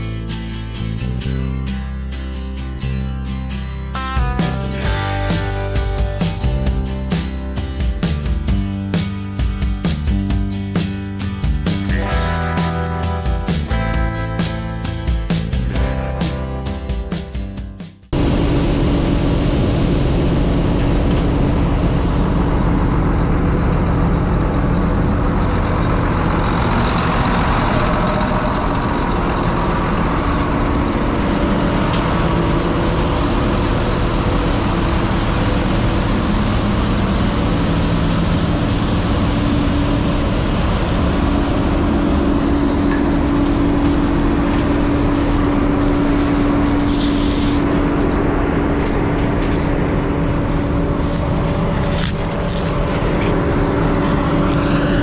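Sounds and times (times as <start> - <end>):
diesel farm machinery drone: 0.0 - 55.0.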